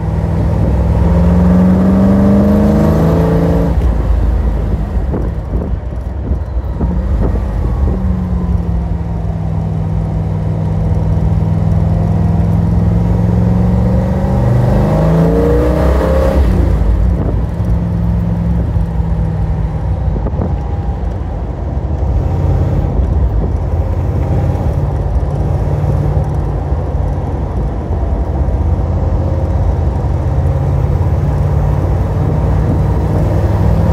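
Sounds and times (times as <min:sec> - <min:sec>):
car engine droning: 0:00.0 - 0:33.9.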